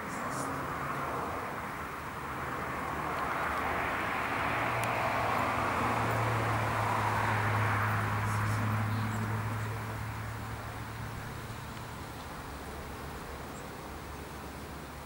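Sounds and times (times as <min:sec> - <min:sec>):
distant engine passing: 0:00.0 - 0:14.9.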